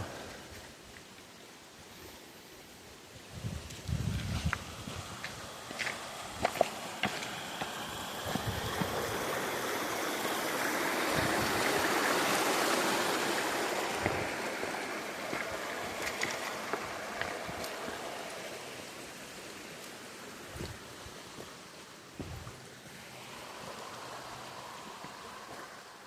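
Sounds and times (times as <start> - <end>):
creek water rushing over rocks: 4.5 - 26.0.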